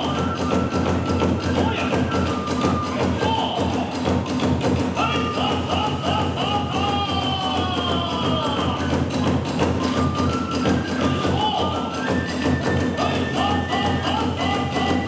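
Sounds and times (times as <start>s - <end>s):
bamboo flute: 0.0s - 15.0s
drums beating: 0.0s - 15.0s.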